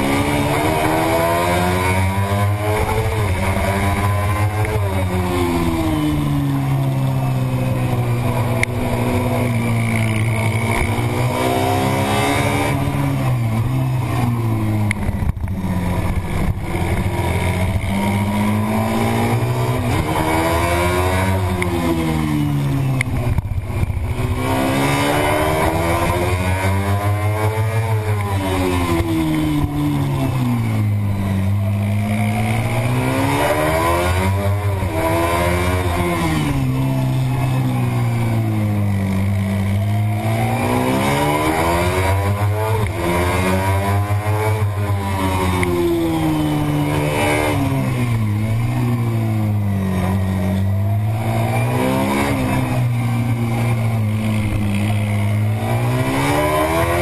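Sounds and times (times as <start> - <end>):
racing motorcycle engine revving: 0.0 - 57.0.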